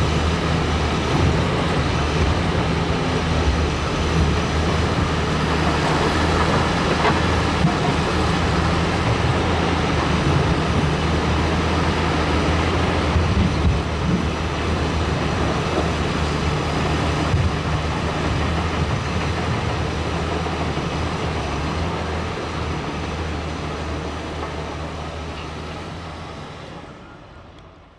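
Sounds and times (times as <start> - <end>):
diesel machine engine drone: 0.0 - 27.9.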